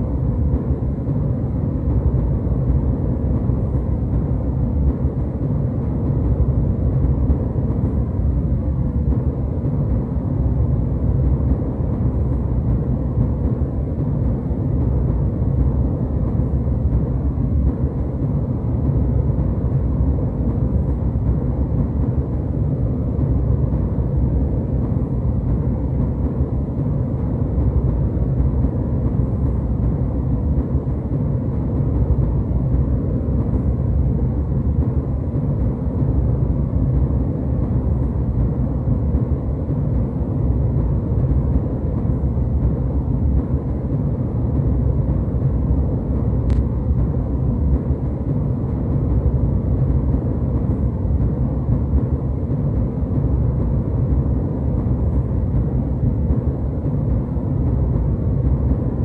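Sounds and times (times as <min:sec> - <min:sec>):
jet airliner cabin noise: 0:00.0 - 0:59.0.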